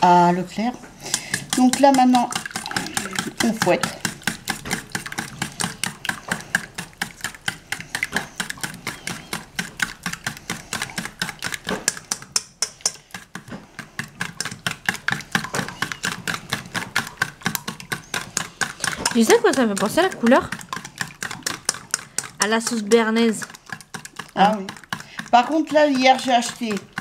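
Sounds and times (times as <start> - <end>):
whisk clicking in metal bowl: 1.0 - 27.0.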